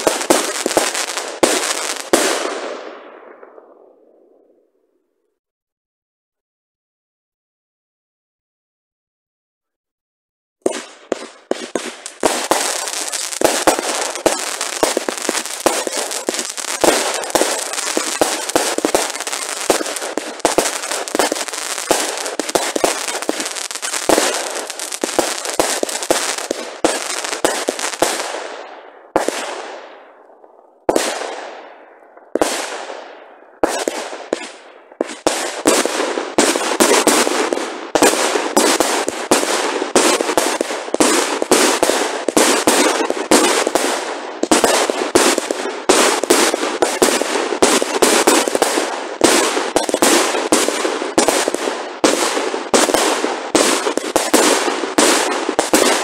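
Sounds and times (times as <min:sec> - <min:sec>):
fireworks firing and crackling: 0:00.0 - 0:04.3, 0:10.6 - 0:56.0.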